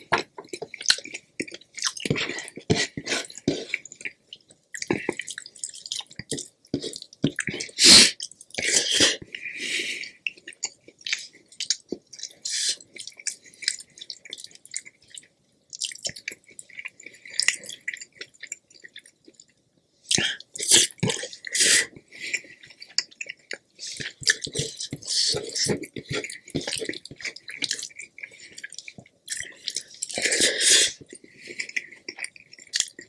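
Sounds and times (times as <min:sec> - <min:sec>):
chewing and mouth smacks: 0:00.0 - 0:09.4, 0:10.2 - 0:33.0.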